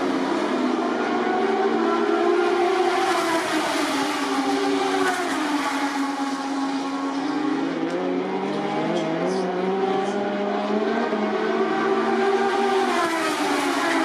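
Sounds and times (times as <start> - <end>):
racing motorcycle engines: 0.0 - 14.0.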